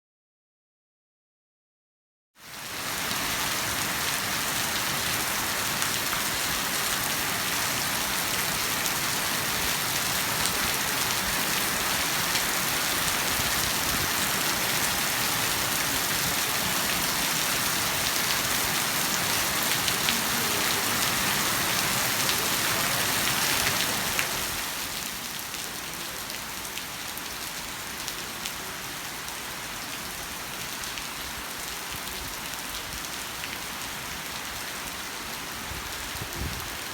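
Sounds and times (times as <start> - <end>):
heavy rain falling: 2.5 - 36.9.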